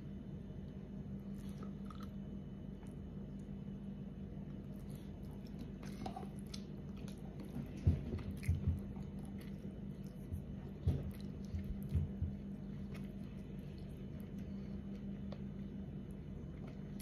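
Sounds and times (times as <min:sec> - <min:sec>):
steady low hum: 0:00.0 - 0:17.0
person chewing food: 0:00.6 - 0:17.0.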